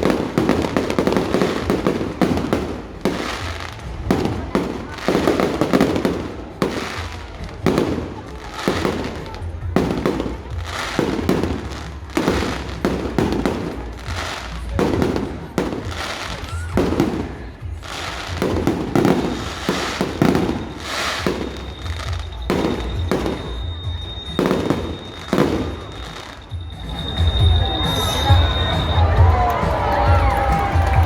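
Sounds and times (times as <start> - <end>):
firecracker bangs: 0.0 - 31.0.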